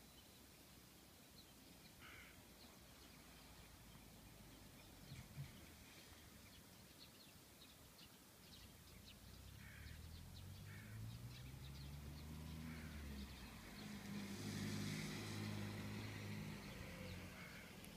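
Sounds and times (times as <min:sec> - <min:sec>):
birds calling: 0:01.4 - 0:17.9.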